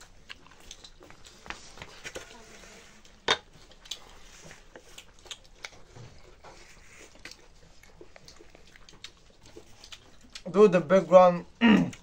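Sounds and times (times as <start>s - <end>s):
chewing and lip smacks: 0.0s - 2.0s, 3.1s - 10.6s, 11.5s - 12.0s.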